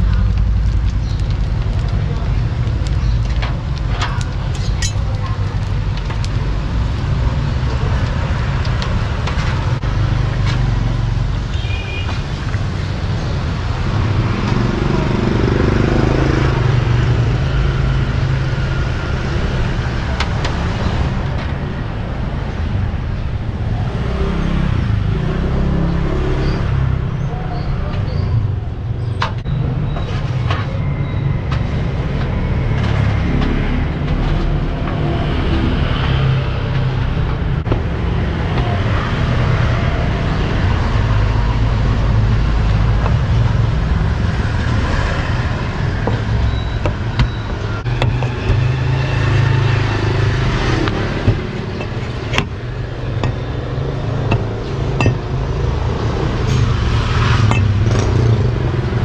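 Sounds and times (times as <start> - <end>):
motorbikes passing: 0.0 - 59.0
street traffic rumble: 0.0 - 59.0.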